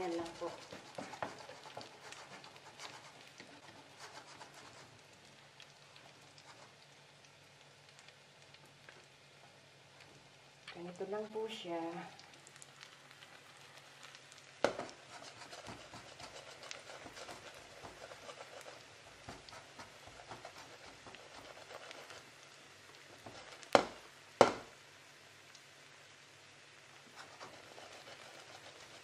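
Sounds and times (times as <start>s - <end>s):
oil sizzling in a frying pan: 0.0s - 29.0s.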